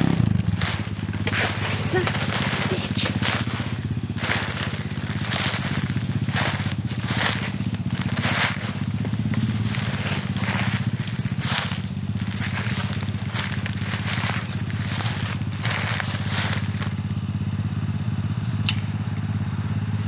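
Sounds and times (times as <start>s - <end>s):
dry leaves crunching: 0.0s - 17.2s
motorbike engine running: 0.0s - 20.0s.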